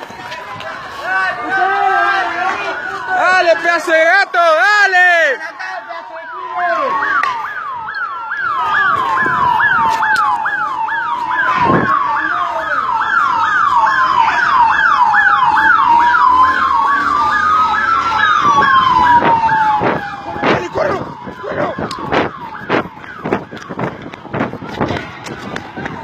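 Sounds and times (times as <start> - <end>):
siren slow wail: 0.8 - 26.0
siren fast yelp: 1.5 - 26.0.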